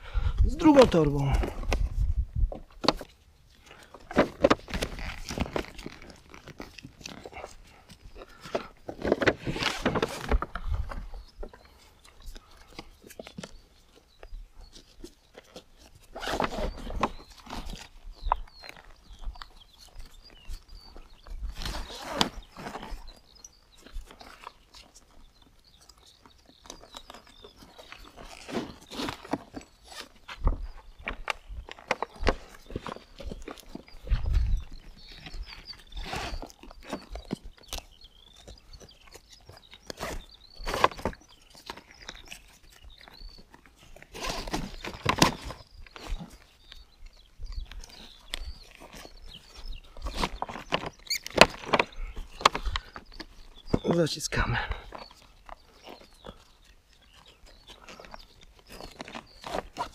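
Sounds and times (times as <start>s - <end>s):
bag and straps rustling: 0.0s - 59.9s.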